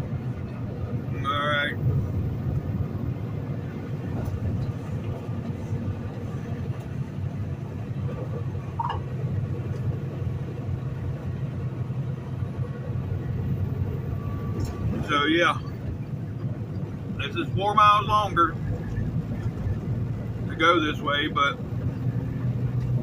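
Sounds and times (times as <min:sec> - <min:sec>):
truck engine and tyre rumble: 0:00.0 - 0:23.0.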